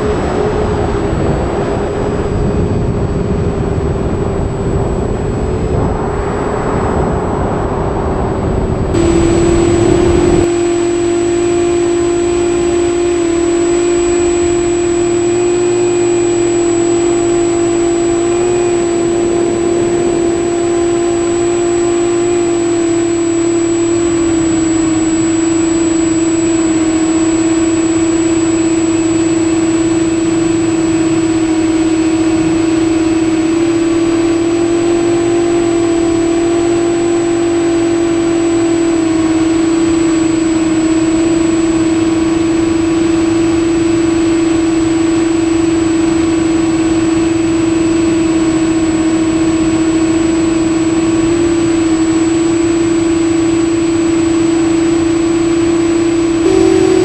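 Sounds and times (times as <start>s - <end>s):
drone motors humming: 0.0s - 7.1s, 8.4s - 57.0s
thin high whine: 0.0s - 57.0s.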